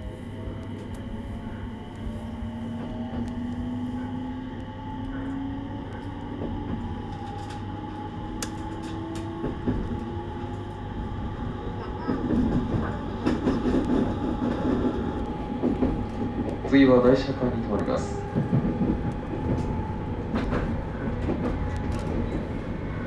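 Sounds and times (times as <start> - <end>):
electric train inverter whine: 0.0 - 23.0
wheels rumbling on rails: 0.0 - 23.0.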